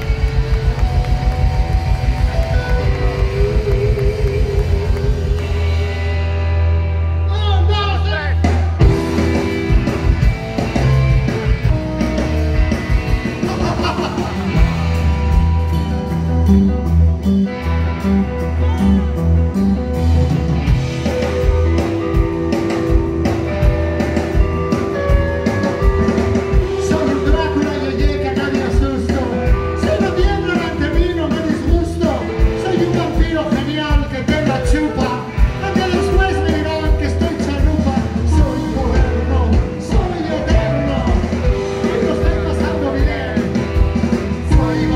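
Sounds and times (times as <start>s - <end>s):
bass guitar: 0.0s - 44.9s
drums: 0.0s - 44.9s
electric guitars: 0.0s - 44.9s.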